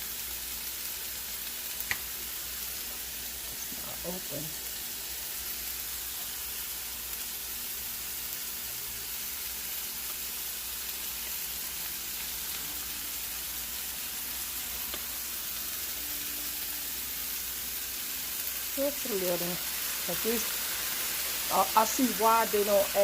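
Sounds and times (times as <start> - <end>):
vegetables sizzling in hot pan: 0.0 - 23.0.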